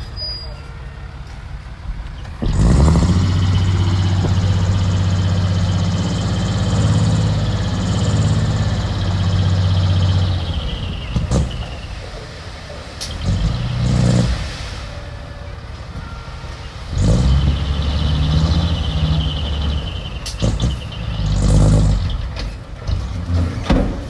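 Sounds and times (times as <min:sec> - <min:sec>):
vehicle engine running: 0:00.0 - 0:23.7.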